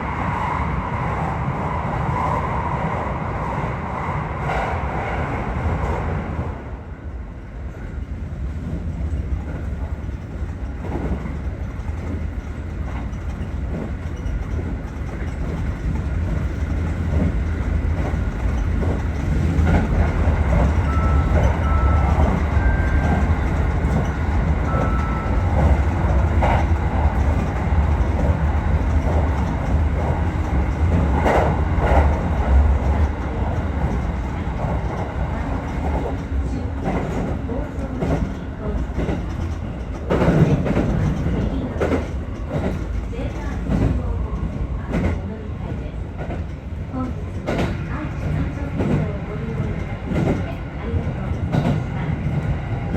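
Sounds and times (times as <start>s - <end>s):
electric train running on track: 0.0s - 52.9s.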